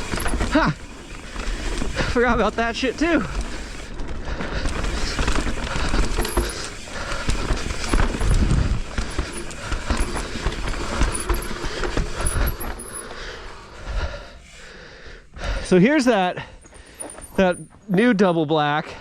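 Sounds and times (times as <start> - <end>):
chain and frame rattling: 0.0 - 4.0, 4.7 - 14.8, 15.4 - 18.1
bike tyres on dirt: 0.0 - 19.0.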